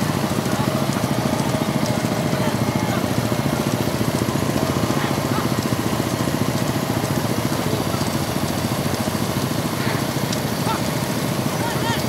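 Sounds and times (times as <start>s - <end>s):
motorcycle engines cruising: 0.0s - 12.0s.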